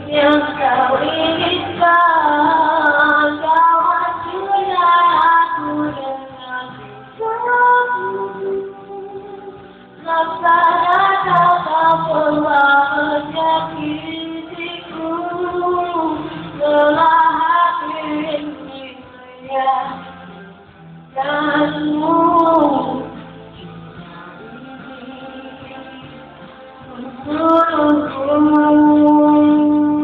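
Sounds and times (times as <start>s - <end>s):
woman singing pop ballad: 0.0s - 20.5s, 21.1s - 30.0s
backing music: 0.0s - 30.0s.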